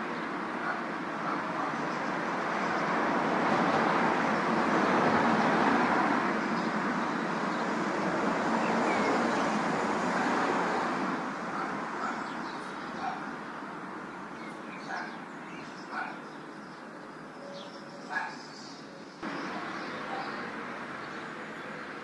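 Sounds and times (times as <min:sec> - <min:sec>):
distant traffic: 0:00.0 - 0:22.0
wind: 0:00.0 - 0:22.0.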